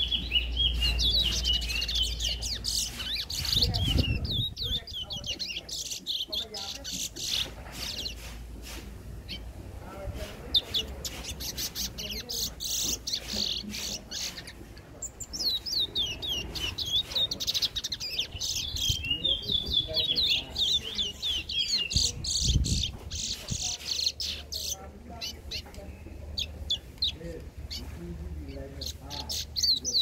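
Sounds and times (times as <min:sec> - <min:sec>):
songbird chirping and whistling: 0:00.0 - 0:08.3, 0:10.5 - 0:30.0.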